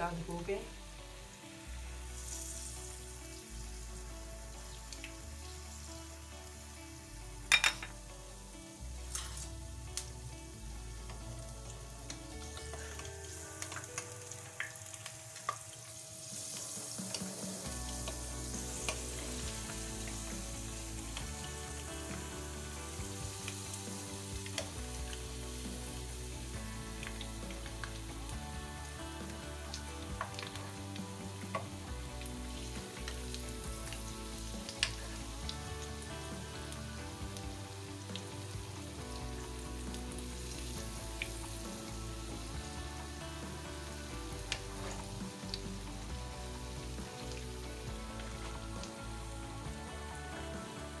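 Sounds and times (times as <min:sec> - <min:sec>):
batter sizzling in hot oil: 0:00.0 - 0:51.0.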